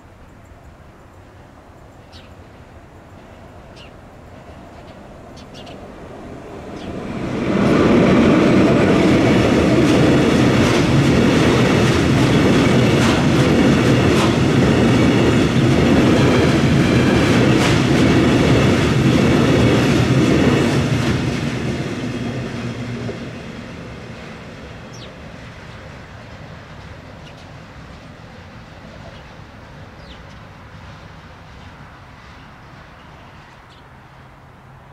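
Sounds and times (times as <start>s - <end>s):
freight train rolling past: 0.0s - 34.9s.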